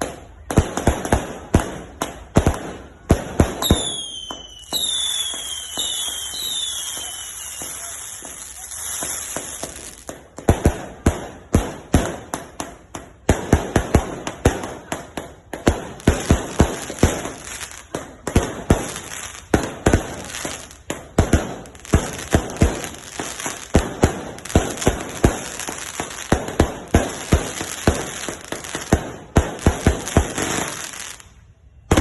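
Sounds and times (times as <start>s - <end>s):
fireworks bangs and cracks: 0.0s - 32.0s.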